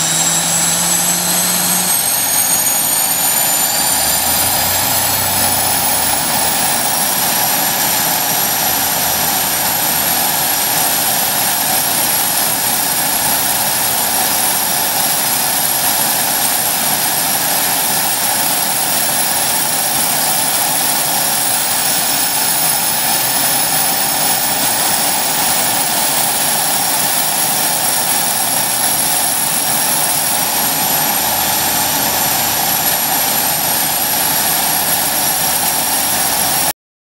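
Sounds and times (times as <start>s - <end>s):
high turbine whine: 0.0s - 36.7s
propeller and engine rush: 0.0s - 36.8s.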